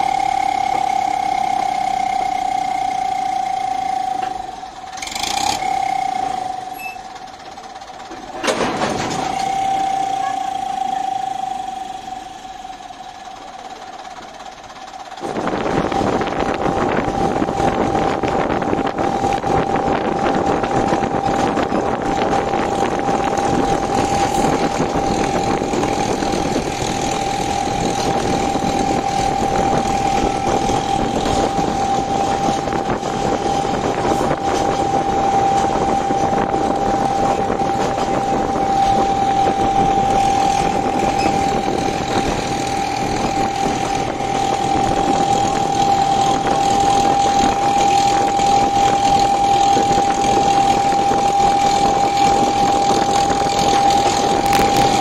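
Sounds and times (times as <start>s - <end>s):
diesel train rumble: 0.0s - 55.0s
steady whine: 0.0s - 55.0s.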